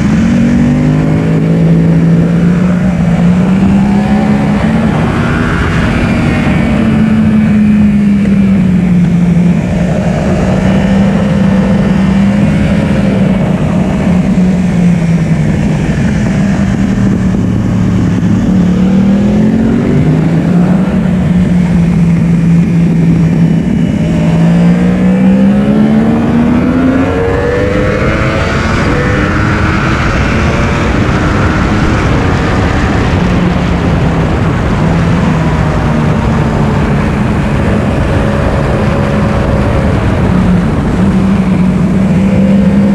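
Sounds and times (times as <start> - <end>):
motorcycle engine revving: 0.0 - 42.9
wind rush: 0.0 - 42.9.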